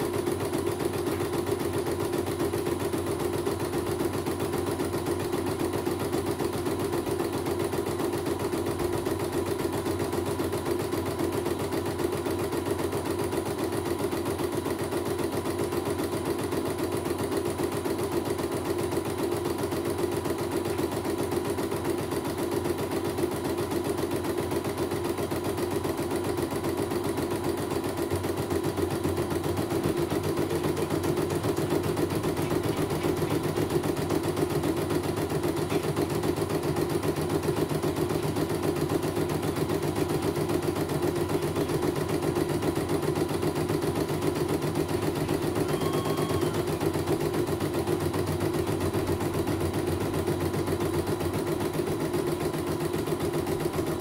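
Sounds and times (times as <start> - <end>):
embroidery machine stitching: 0.0 - 54.0.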